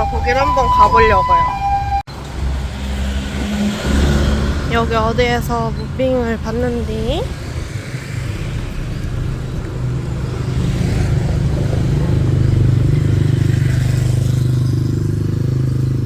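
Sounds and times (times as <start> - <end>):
street traffic: 0.0 - 16.0
vehicle engine humming: 0.0 - 16.0.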